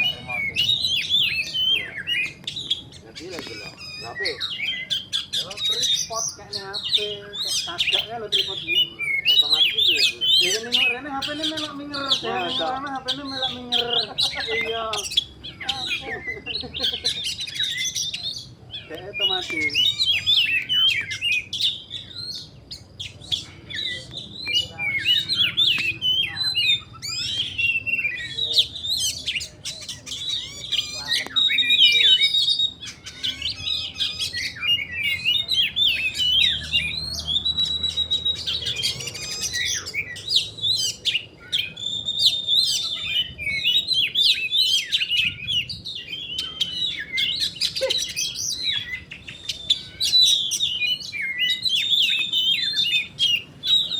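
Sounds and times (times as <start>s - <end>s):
bird singing chirps and warbles: 0.0s - 53.9s.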